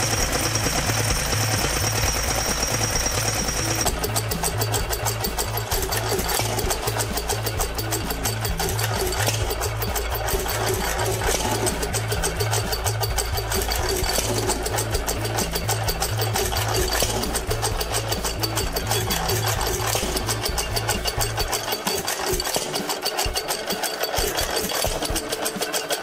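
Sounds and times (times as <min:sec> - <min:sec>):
stationary engine running: 0:00.0 - 0:26.0.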